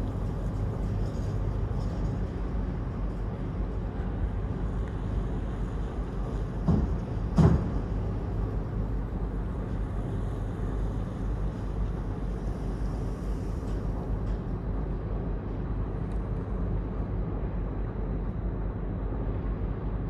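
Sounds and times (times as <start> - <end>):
ferry engine rumbling: 0.0 - 20.0.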